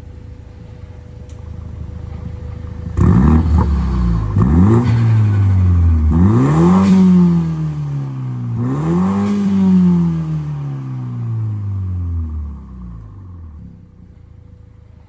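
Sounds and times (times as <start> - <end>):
car engine revving: 1.6 - 14.5.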